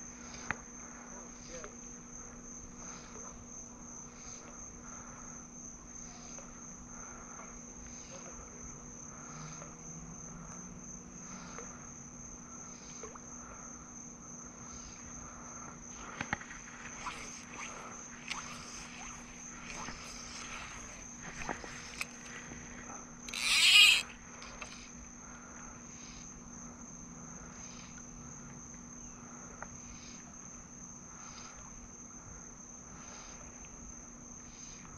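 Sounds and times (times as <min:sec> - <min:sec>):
crickets trilling: 0:00.0 - 0:34.9
slow repeating insect call: 0:00.0 - 0:34.9.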